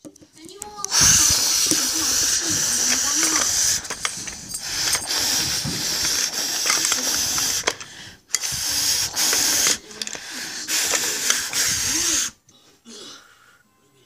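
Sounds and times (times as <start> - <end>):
blown whooshes imitating wind: 0.9 - 12.4.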